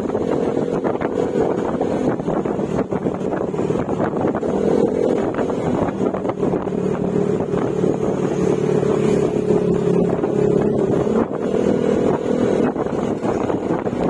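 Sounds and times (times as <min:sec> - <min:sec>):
scooter engine cruising: 0:00.0 - 0:14.0.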